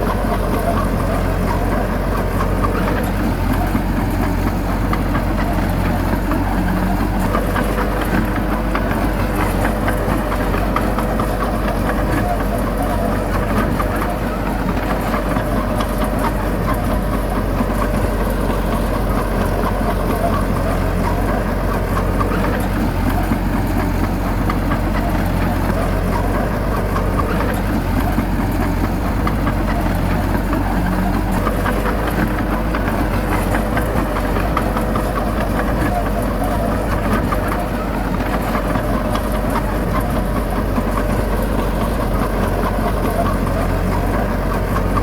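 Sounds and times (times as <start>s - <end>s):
bulldozer diesel engine: 0.0s - 45.0s.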